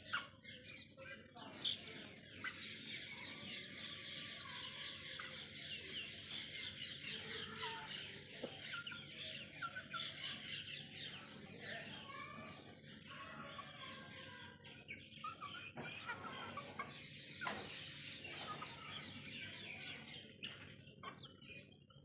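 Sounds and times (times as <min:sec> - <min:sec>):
chickens chirping: 0:00.0 - 0:22.0.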